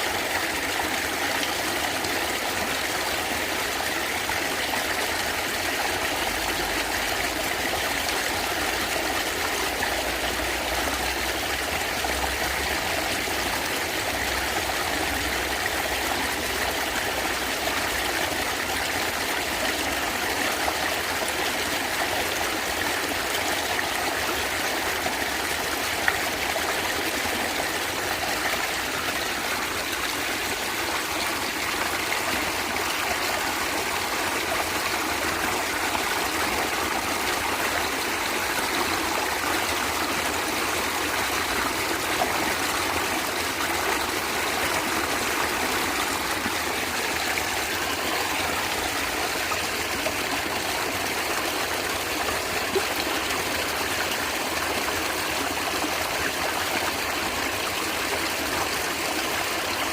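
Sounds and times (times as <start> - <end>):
stream gurgling over stones: 0.0 - 59.9.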